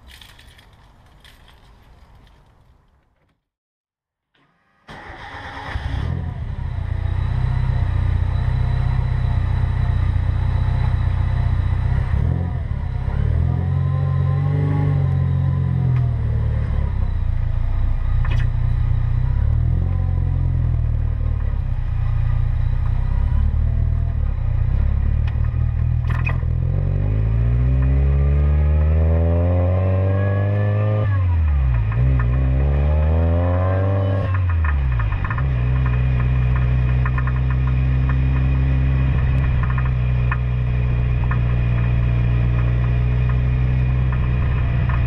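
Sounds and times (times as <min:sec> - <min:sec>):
car engine revving through gears: 0:04.9 - 0:45.0.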